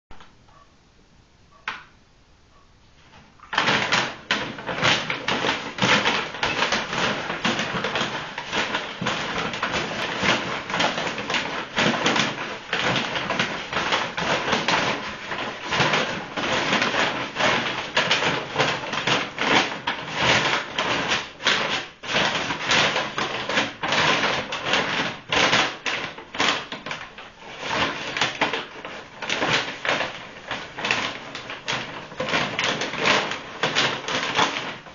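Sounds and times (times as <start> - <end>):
shopping bag crinkling: 3.1 - 34.9.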